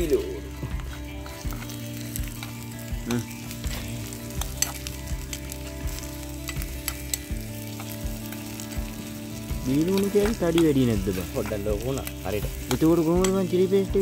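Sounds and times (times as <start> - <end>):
onions sizzling in a pot: 0.0 - 14.0.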